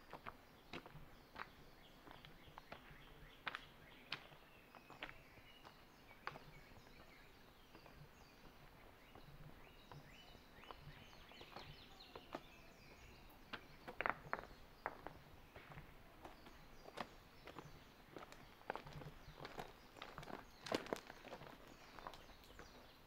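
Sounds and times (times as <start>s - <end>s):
birds chirping: 0.0s - 23.0s
footsteps on gravel: 0.1s - 23.0s.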